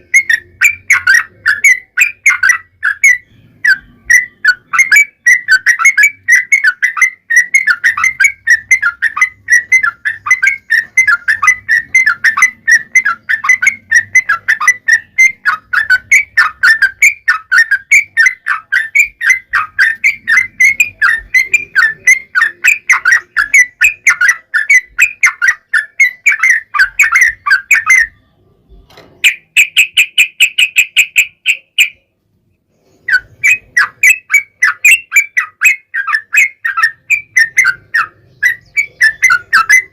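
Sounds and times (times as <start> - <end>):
bird fast trill: 0.0 - 28.4, 29.2 - 32.2, 32.8 - 39.9
bird song chattering notes: 0.0 - 39.9.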